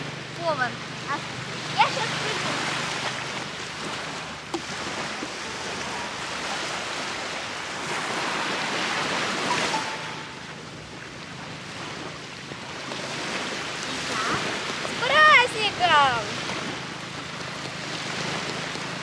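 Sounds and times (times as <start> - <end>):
waves washing on shore: 0.0 - 19.0.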